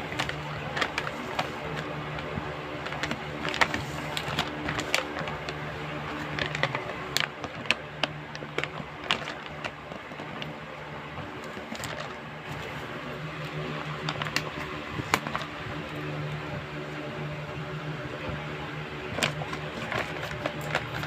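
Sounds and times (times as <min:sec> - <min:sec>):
gift packaging crinkling: 0:00.0 - 0:10.6, 0:11.2 - 0:15.7, 0:19.0 - 0:21.0
steady low hum: 0:00.0 - 0:21.0.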